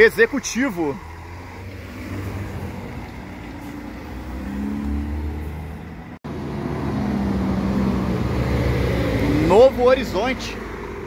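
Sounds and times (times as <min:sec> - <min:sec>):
coach diesel engine: 0:00.0 - 0:11.0.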